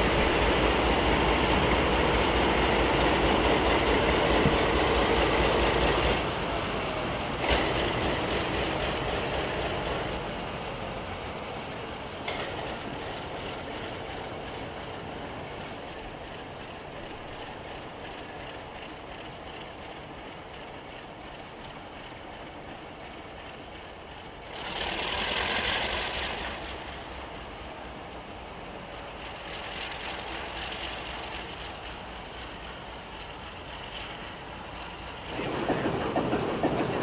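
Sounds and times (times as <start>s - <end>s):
diesel locomotive running: 0.0s - 37.0s.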